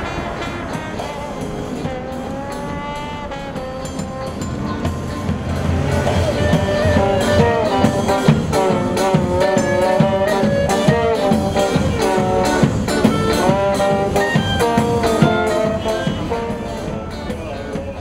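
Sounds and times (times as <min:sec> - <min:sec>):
brass horn melody: 0:00.0 - 0:17.6
double bass: 0:00.0 - 0:18.0
guitar: 0:00.0 - 0:18.0
steady drum beat: 0:00.0 - 0:18.0.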